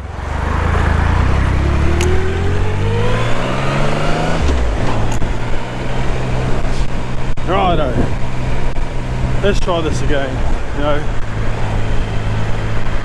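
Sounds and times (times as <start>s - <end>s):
motorcycle engine accelerating: 0.0s - 13.0s
wind rushing over microphone: 0.9s - 13.0s.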